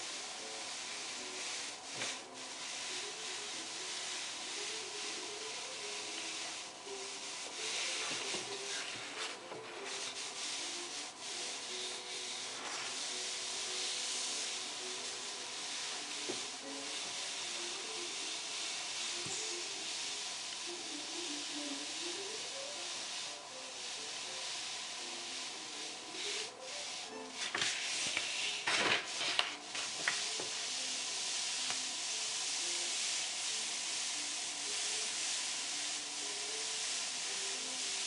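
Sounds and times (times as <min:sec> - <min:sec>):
brush stroking across paper: 0:00.0 - 0:38.0.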